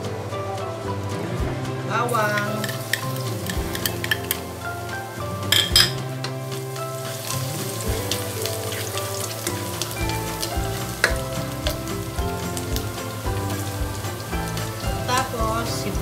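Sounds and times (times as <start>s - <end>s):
garlic sizzling in oil: 2.1s - 16.0s
spatula stirring in wok: 2.3s - 16.0s.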